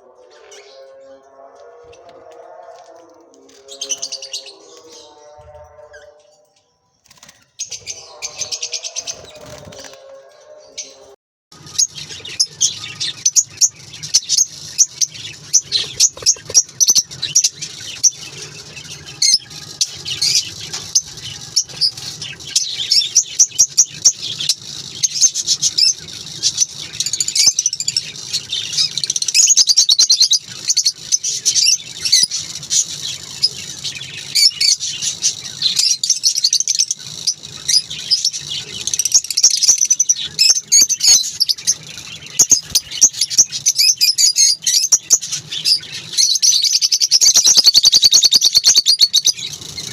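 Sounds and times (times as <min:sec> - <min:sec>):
lovebirds chirping: 0:00.0 - 0:49.9.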